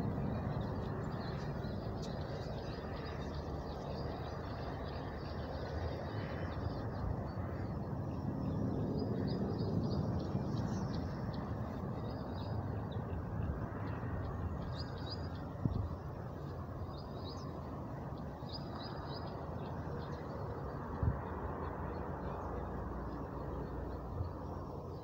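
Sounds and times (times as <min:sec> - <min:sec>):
birds chirping: 0:00.0 - 0:25.0
steady rushing noise: 0:00.0 - 0:25.0.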